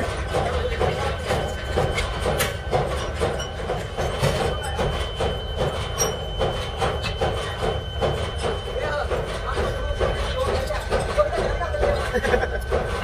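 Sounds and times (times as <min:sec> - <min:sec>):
rhythmic mechanical clatter: 0:00.0 - 0:13.0.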